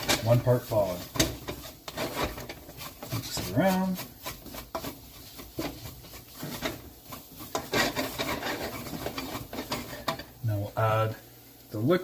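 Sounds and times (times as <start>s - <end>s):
spoon scraping pot: 0.0s - 10.4s.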